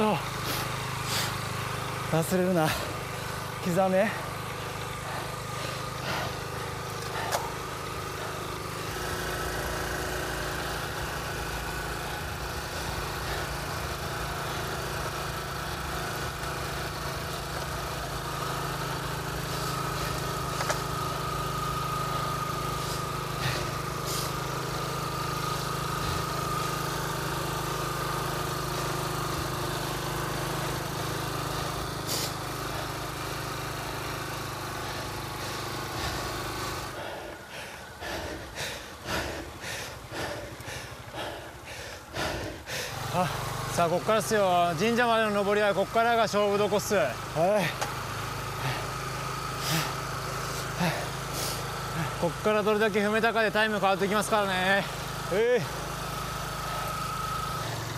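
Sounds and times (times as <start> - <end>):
vehicle engine humming: 0.0 - 57.9.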